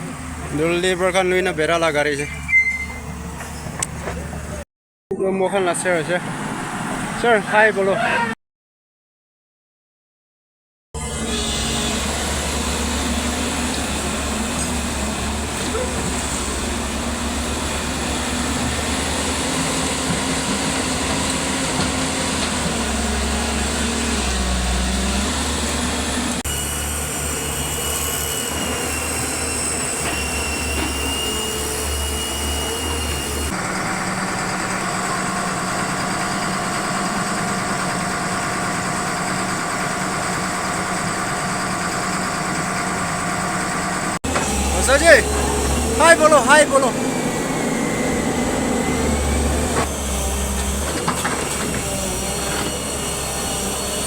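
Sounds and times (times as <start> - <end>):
excavator diesel engine running: 0.0 - 2.3, 11.0 - 54.0.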